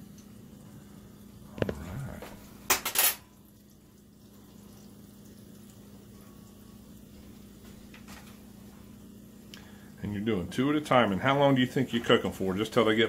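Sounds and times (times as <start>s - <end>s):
faint sizzle of frying in oil: 0.0s - 13.0s.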